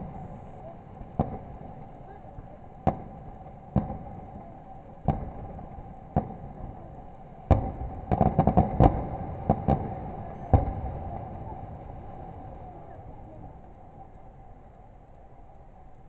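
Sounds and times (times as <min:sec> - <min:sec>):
fireworks banging: 0:00.0 - 0:14.2
fireworks rumble: 0:00.0 - 0:16.0.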